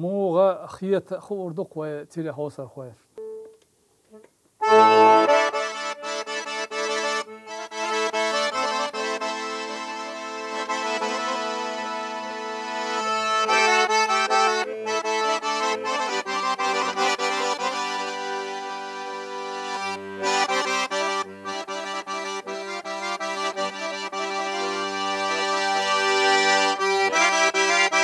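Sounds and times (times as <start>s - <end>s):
solo accordion folk melody: 4.2s - 28.0s.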